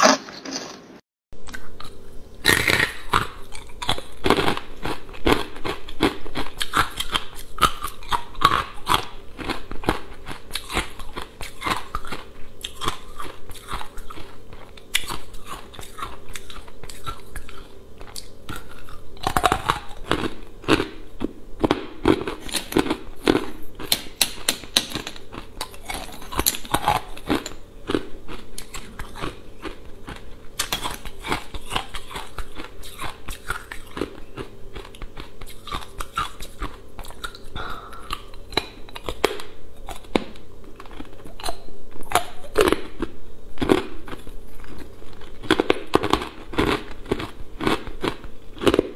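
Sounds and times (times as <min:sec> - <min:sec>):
ice being chewed: 0:01.4 - 0:48.9.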